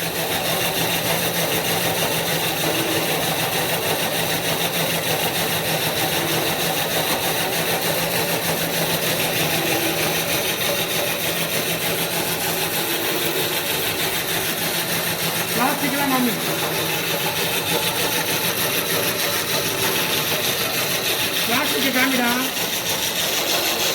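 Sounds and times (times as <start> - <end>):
extruder motor humming: 0.0 - 23.9.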